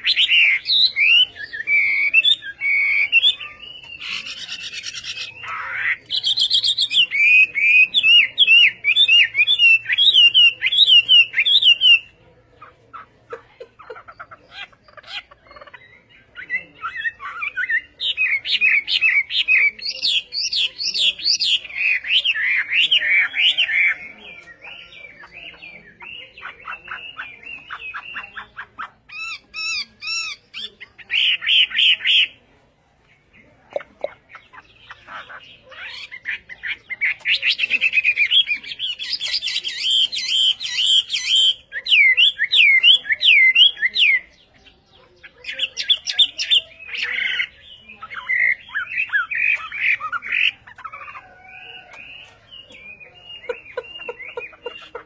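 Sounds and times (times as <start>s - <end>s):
bird singing trills and whistles: 0.0s - 12.2s, 14.2s - 32.4s, 33.1s - 55.0s.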